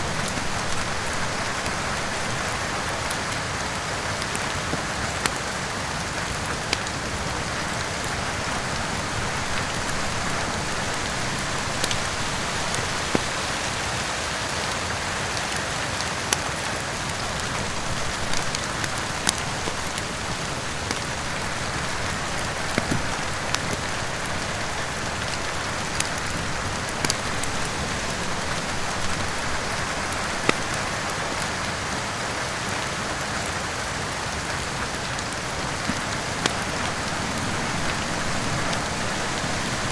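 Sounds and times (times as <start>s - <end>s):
heavy rain: 0.0s - 39.9s
wood fire crackling: 0.0s - 39.9s.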